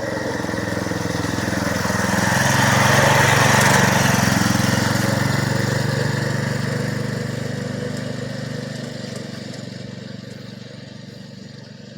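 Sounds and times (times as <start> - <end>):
mini bike engine running: 0.0 - 11.9.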